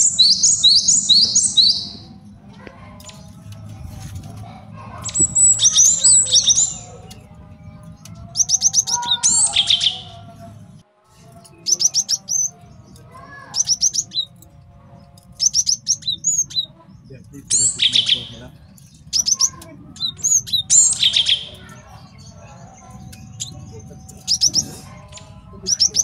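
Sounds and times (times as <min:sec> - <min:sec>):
bird singing rapid chattering notes: 0:00.0 - 0:10.6, 0:11.3 - 0:26.0.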